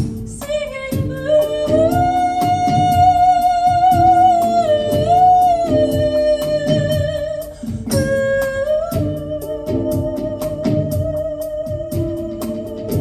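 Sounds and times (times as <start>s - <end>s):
hang drum notes ringing: 0.0s - 13.0s.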